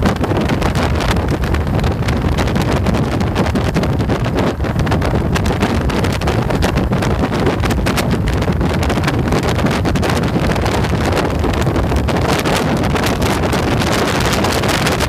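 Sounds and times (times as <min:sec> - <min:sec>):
motorcycle engine and road rumble: 0:00.0 - 0:15.0
wind buffeting the microphone: 0:00.0 - 0:15.0.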